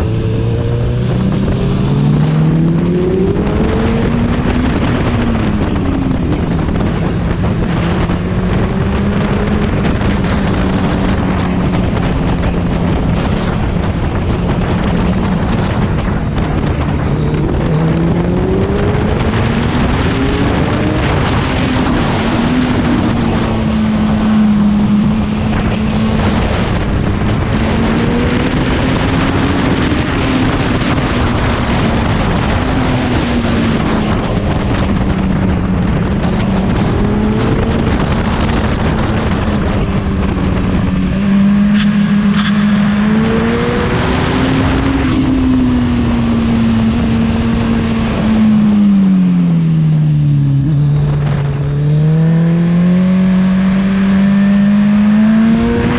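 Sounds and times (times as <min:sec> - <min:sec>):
motorcycle engine revving: 0:00.0 - 0:55.9
wind rush on microphone: 0:00.0 - 0:55.9.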